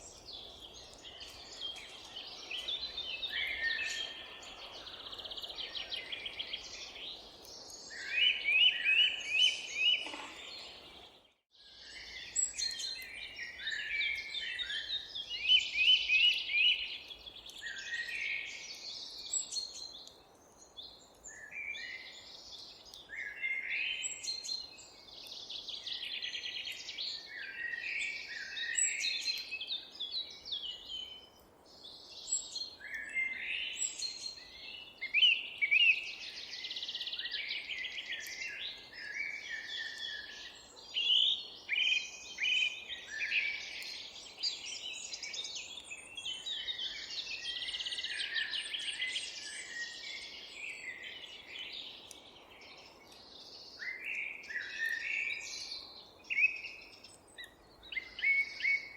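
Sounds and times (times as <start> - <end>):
songbirds trilling and chirping: 0.0 - 58.9.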